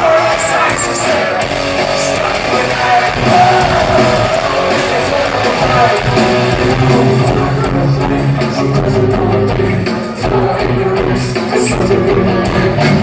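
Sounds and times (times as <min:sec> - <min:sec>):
bass line: 0:00.0 - 0:13.0
guitars strumming: 0:00.0 - 0:13.0.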